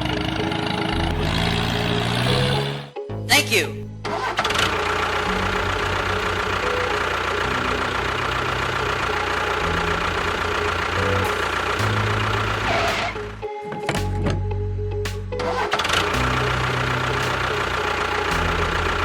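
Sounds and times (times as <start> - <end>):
engine idling: 0.0 - 2.9, 3.8 - 19.0.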